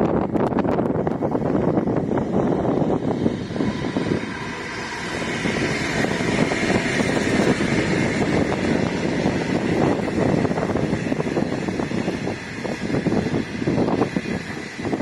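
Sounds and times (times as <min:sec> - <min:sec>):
diesel locomotive passing: 0:00.0 - 0:15.0
train carriages rumbling on rails: 0:00.0 - 0:15.0.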